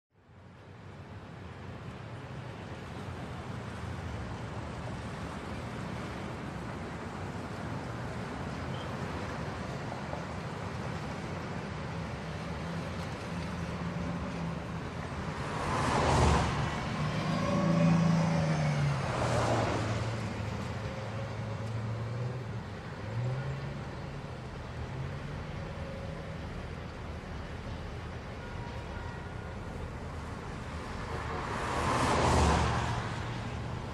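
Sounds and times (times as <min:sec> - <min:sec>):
cars passing close by: 0:01.3 - 0:33.9.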